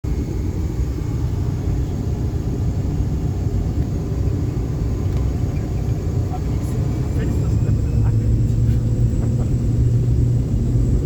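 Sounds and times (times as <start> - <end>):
turboprop engine running: 0.0 - 11.0.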